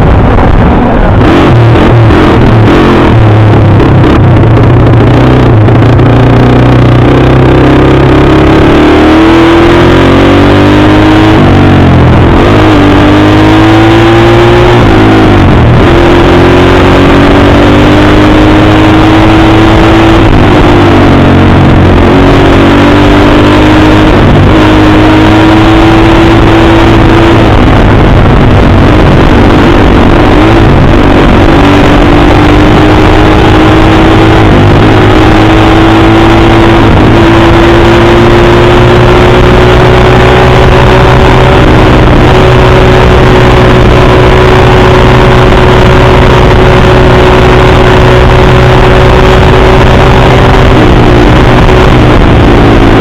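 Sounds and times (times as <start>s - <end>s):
dirt bike engine accelerating: 0.0s - 53.0s.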